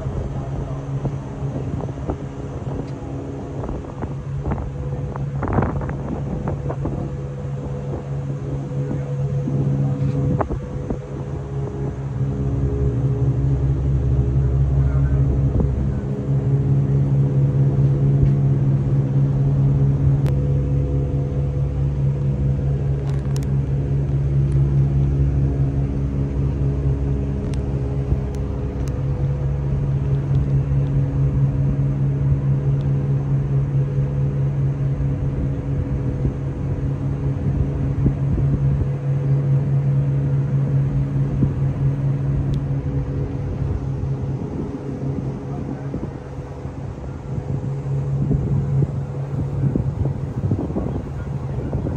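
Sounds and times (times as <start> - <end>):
boat diesel engines droning: 0.0 - 51.9.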